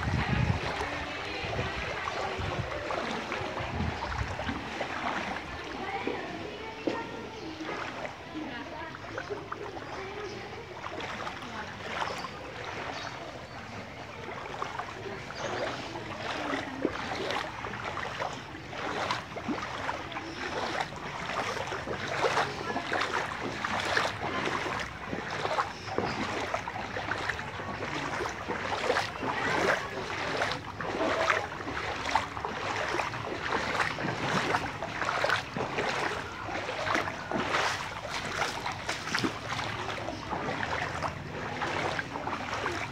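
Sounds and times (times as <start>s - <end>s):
footsteps wading through water: 0.0s - 42.9s
steady wash of water: 0.0s - 42.9s.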